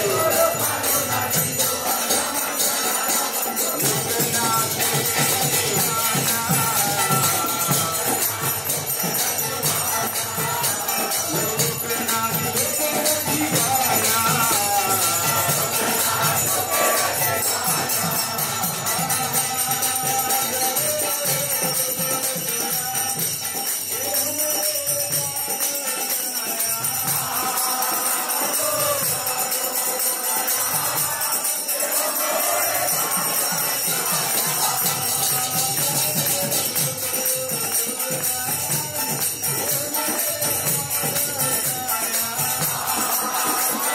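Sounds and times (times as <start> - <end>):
group singing a chant: 0.0 - 43.9
hand cymbals clashing: 0.0 - 43.9.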